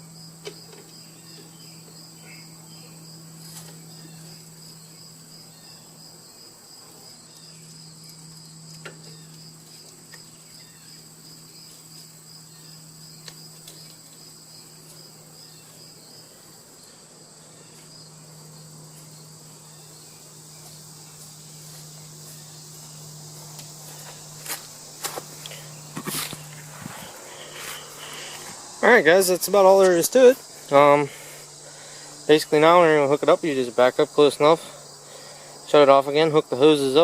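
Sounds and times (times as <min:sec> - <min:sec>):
low hum: 0:00.0 - 0:33.9
crickets chirping: 0:00.0 - 0:37.0.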